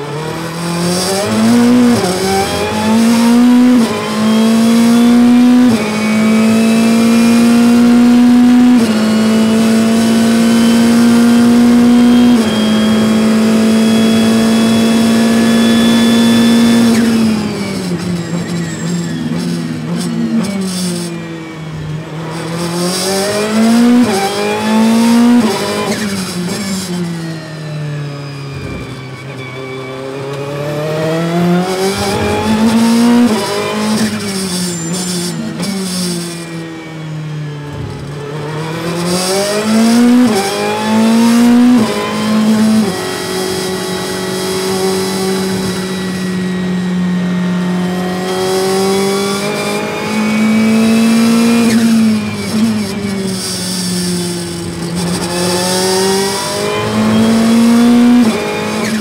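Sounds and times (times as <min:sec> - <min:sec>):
race car engine from cockpit: 0:00.0 - 0:59.0.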